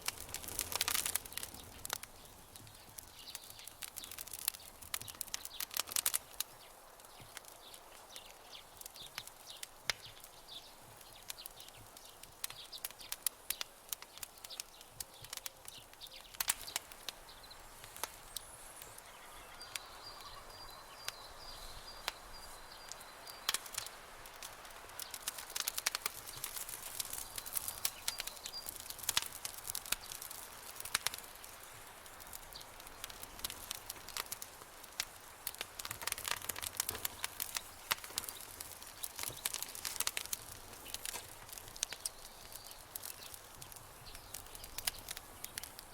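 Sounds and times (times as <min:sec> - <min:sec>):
campfire crackling and popping: 0:00.0 - 0:45.9
faint outdoor background: 0:00.0 - 0:45.9.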